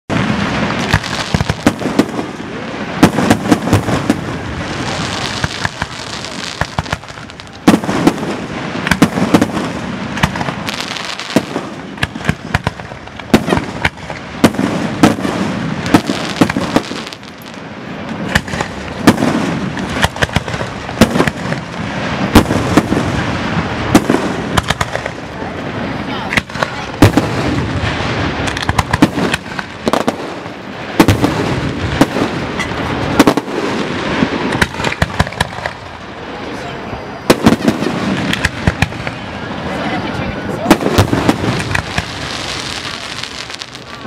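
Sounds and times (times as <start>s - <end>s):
fireworks bursting with bangs: 0.1s - 44.0s
fireworks crackle and hiss: 0.1s - 44.0s.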